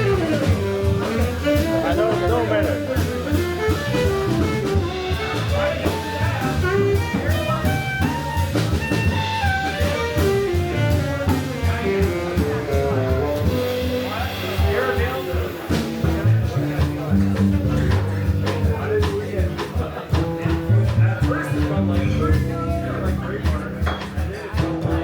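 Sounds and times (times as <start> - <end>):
drum kit keeping time: 0.0 - 25.0
jazz melody line: 0.0 - 25.0
walking bass line: 0.0 - 25.0.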